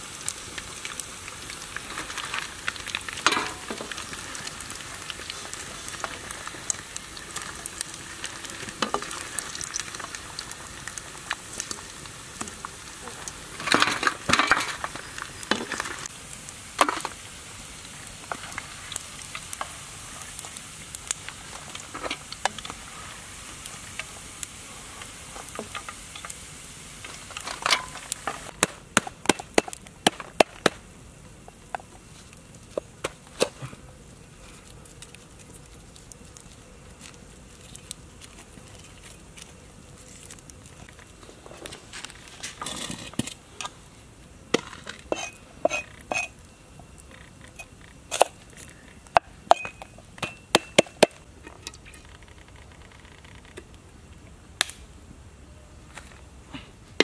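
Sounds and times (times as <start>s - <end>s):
steady high hiss: 0.0s - 57.0s.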